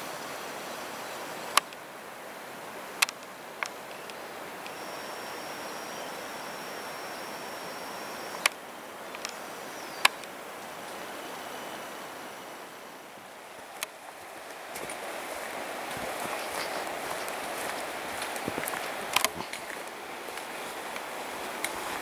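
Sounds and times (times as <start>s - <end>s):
rushing water: 0.0s - 22.0s
faint thin high whine: 2.9s - 22.0s.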